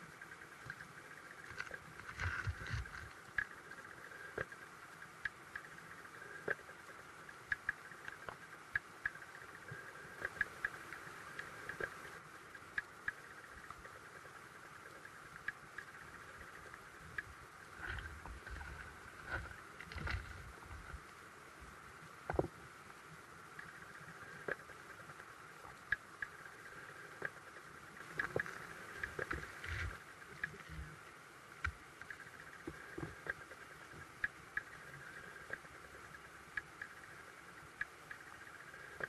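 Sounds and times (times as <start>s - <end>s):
sharp underwater clicks: 0.1s - 21.2s, 23.4s - 31.0s, 31.6s - 39.0s.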